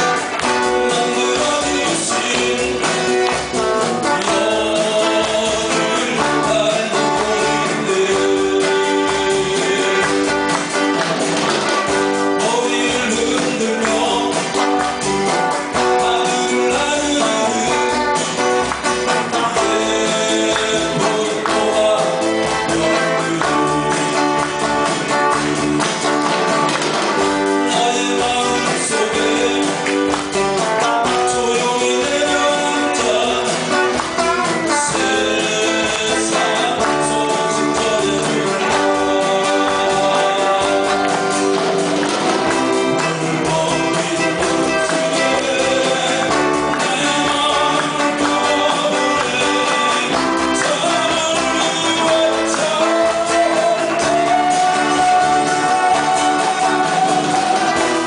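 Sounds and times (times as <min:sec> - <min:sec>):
band playing pop music live: 0:00.0 - 0:58.0.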